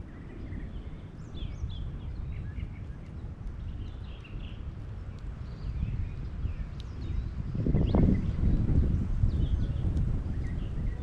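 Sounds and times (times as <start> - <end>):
low rumble of wind: 0.0 - 11.0
small birds chirping: 0.0 - 11.0.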